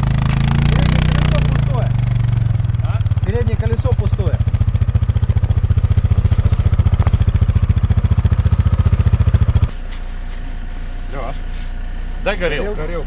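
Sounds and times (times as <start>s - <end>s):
engine hum: 0.0s - 13.0s
engine low pulsing: 0.0s - 13.0s.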